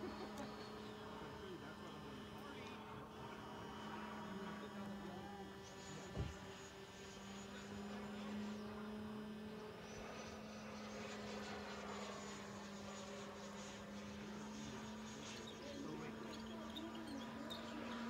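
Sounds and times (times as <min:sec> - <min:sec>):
high-pitched electric fan whine: 0:00.0 - 0:18.0.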